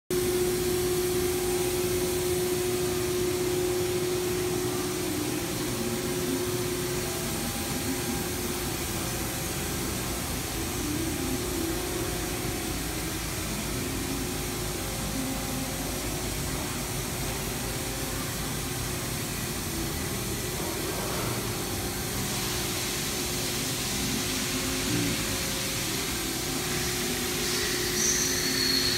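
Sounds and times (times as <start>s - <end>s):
machinery and fans whirring: 0.1s - 28.9s
steady hum: 0.1s - 28.9s.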